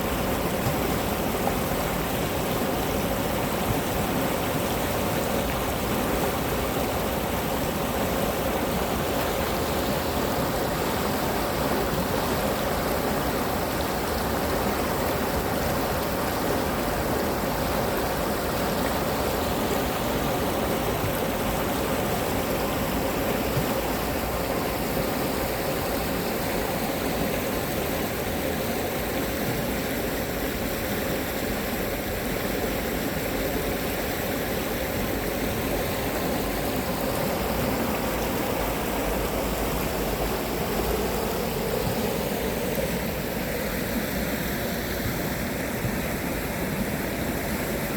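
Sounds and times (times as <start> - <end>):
stream rushing: 0.0 - 47.9.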